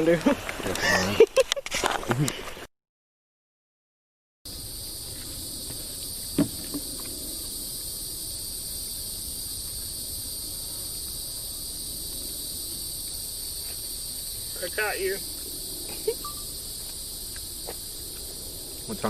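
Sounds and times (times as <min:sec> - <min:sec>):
insect chorus drone: 0:00.0 - 0:01.4, 0:04.5 - 0:19.0.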